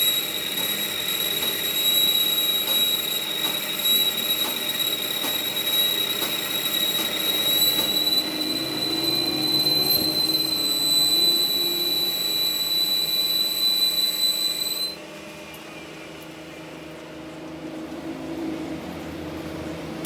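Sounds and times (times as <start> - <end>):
machine high-pitched whine: 0.0 - 16.8.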